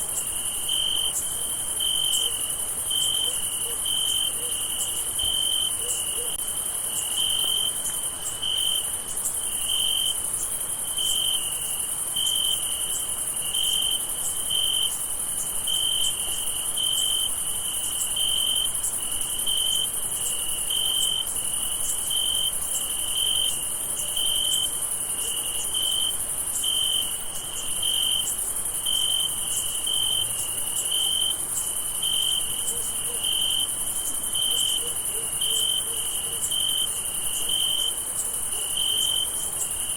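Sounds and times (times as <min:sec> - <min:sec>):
crickets trilling: 0:00.0 - 0:39.9
pulsed cricket chirp: 0:00.0 - 0:39.9.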